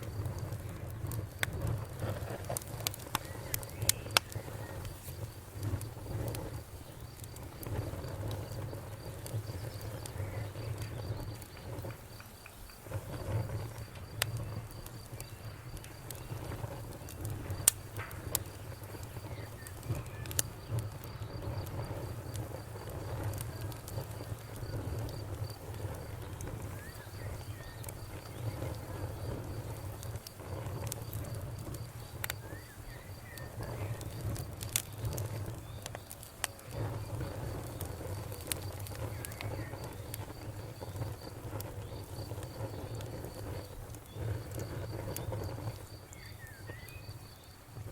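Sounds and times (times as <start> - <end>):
campfire crackling and popping: 0.0 - 47.9
low rumble of burning: 0.0 - 47.9.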